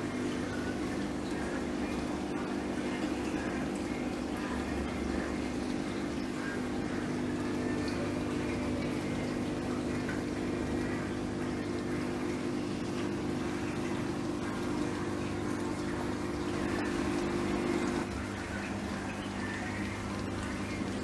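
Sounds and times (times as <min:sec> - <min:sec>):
aquarium pumps humming: 0:00.0 - 0:21.0
circulating water rushing: 0:00.0 - 0:21.0.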